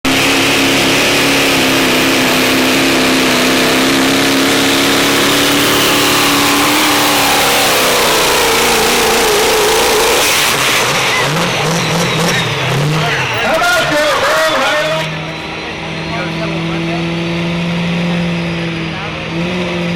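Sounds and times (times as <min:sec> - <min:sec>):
diesel truck engine revving: 0:00.0 - 0:19.9.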